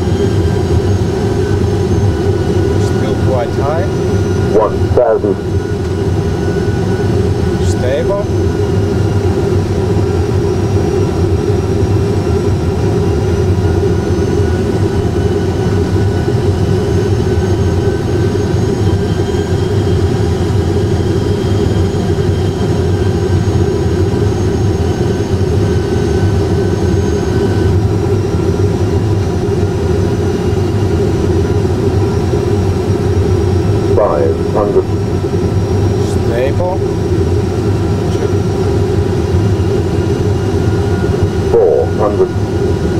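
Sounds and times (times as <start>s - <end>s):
engine and airflow drone: 0.0s - 42.9s.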